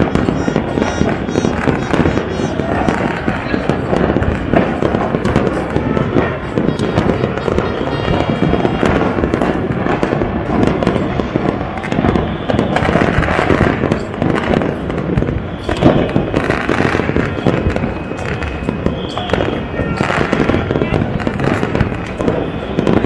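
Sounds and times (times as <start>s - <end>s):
firecrackers crackling: 0.0s - 23.0s
loud firework bang: 0.0s - 23.0s.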